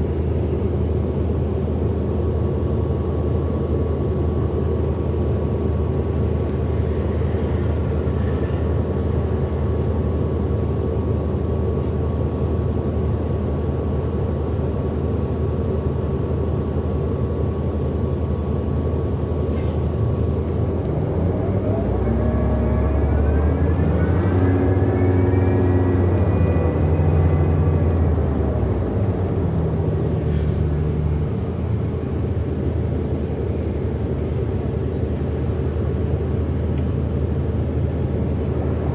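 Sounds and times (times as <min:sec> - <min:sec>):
bus drivetrain hum with whine: 0:00.0 - 0:38.9.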